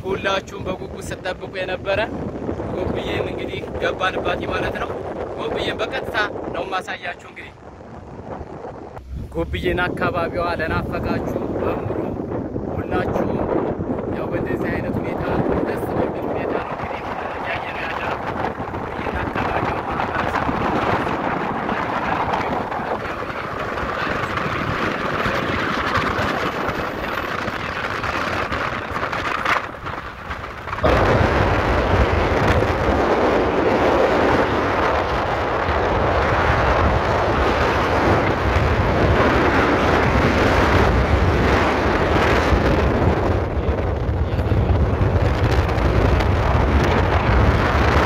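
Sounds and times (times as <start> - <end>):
vehicle road noise: 0.0 - 48.0
wind rumble on microphone: 0.0 - 48.0.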